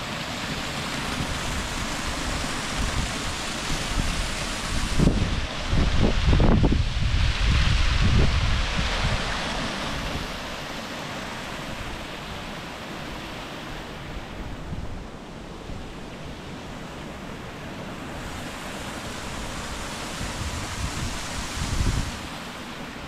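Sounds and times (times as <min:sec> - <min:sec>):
waterfall rushing: 0:00.0 - 0:14.2, 0:16.8 - 0:23.0
wind rumbling on microphone: 0:00.4 - 0:10.8, 0:14.0 - 0:23.0.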